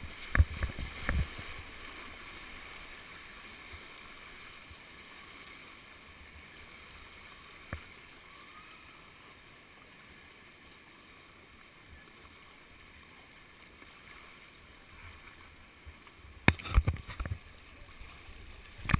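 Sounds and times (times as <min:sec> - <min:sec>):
river current rushing: 0:00.0 - 0:18.9
water splashes: 0:00.0 - 0:18.9.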